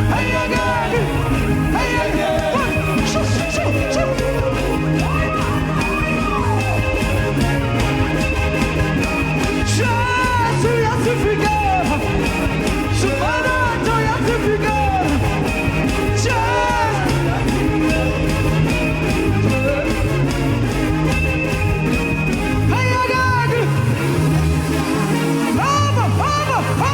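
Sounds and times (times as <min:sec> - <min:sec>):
bass and drums: 0:00.0 - 0:26.9
gospel worship band music: 0:00.0 - 0:26.9.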